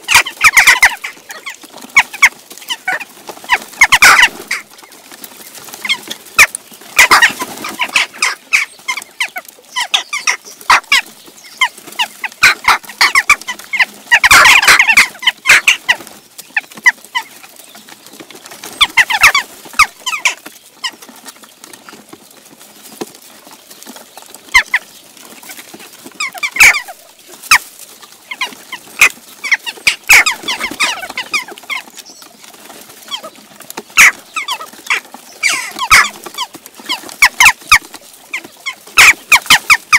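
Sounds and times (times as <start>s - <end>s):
jackdaws calling: 0.0s - 21.2s, 23.7s - 39.9s
birds squabbling: 0.0s - 39.9s
wings flapping: 0.0s - 39.9s.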